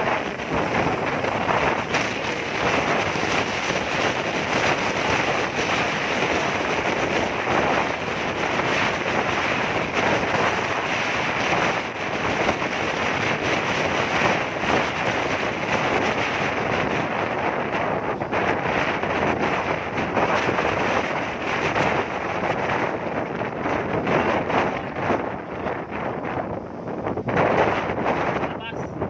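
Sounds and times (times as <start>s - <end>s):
road and engine noise: 0.0s - 29.0s
wind rushing over microphone: 0.0s - 29.0s.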